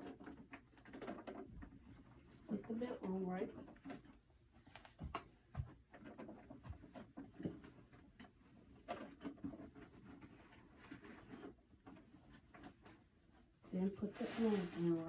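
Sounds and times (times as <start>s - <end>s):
faint knocks and clicks: 0.0s - 13.7s.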